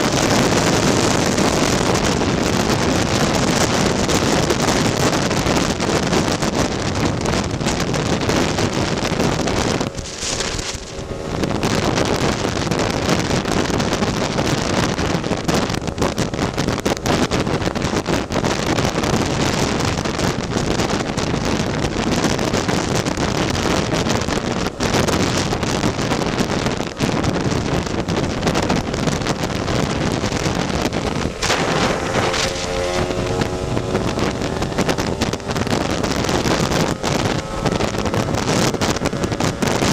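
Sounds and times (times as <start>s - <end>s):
scooter engine running: 0.0s - 39.9s
wind buffeting microphone: 0.0s - 39.9s.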